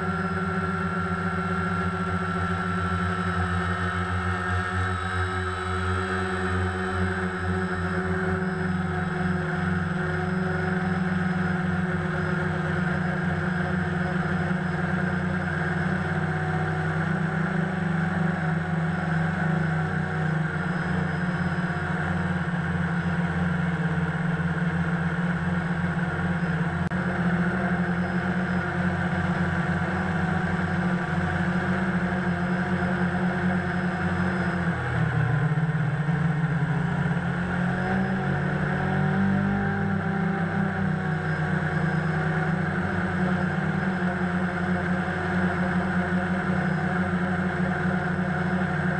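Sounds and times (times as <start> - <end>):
drone propellers humming: 0.0 - 48.9.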